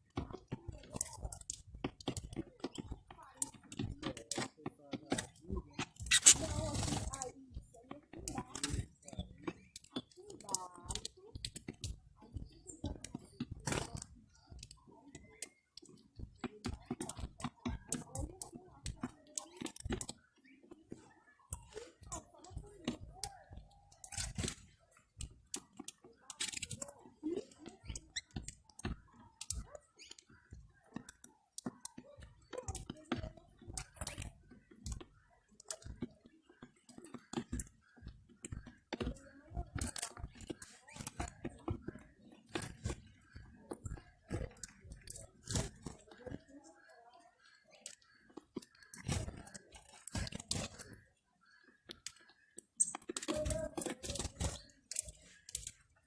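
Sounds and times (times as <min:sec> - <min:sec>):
beaks pecking grain: 0:00.0 - 0:56.0.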